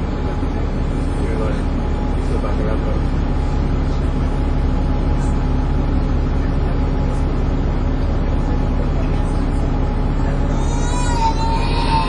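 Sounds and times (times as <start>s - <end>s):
bus engine drone with whine: 0.0s - 12.0s.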